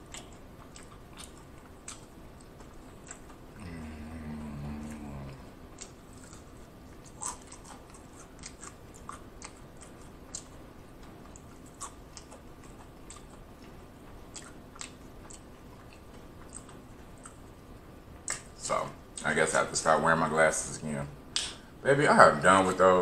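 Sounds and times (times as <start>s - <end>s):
chewing crunchy fried food: 0.0s - 19.3s.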